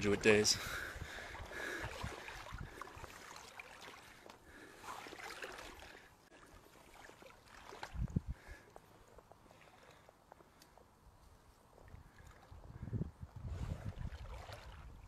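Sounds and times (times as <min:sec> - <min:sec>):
pond water sloshing and trickling: 0:00.0 - 0:15.0.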